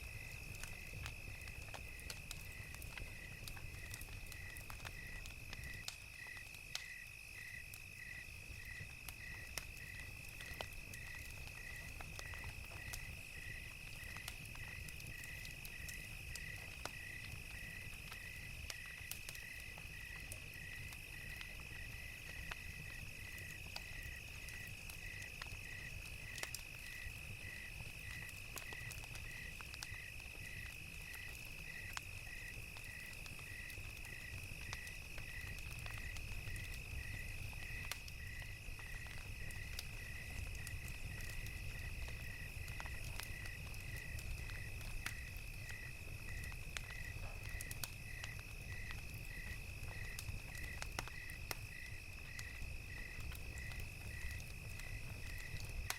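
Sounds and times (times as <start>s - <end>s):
crickets chirping: 0.0s - 55.9s
wood fire crackling: 0.0s - 55.9s.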